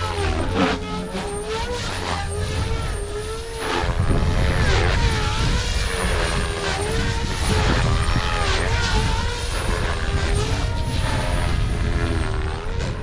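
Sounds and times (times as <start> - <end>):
rc helicopter motor and rotor whine: 0.0 - 13.0
wind buffeting microphone: 0.0 - 13.0.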